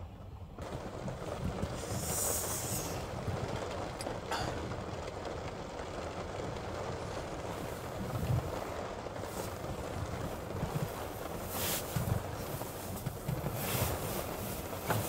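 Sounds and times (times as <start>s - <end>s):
wind and rain buffeting truck: 0.0s - 15.0s.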